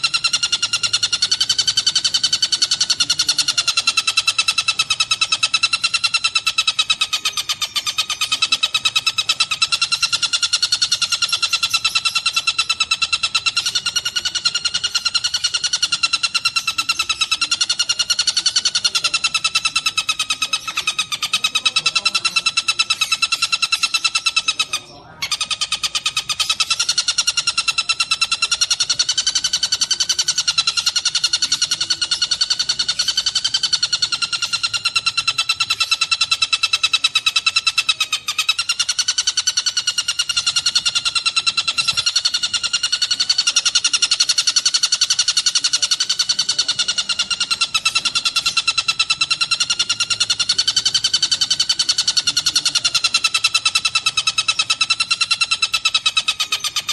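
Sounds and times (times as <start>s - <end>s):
kingfisher chattering trill: 0.0s - 56.9s.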